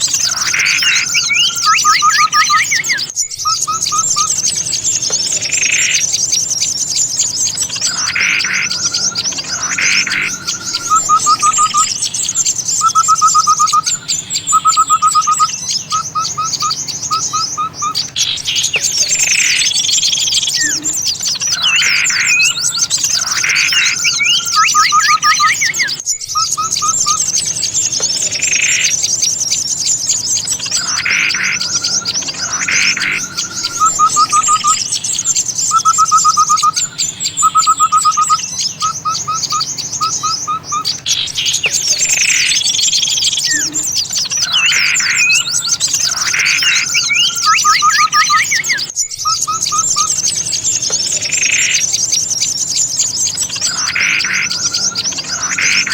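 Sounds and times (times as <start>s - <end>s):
harsh bird calls: 0.0s - 55.9s
songbirds twittering chorus: 0.0s - 55.9s.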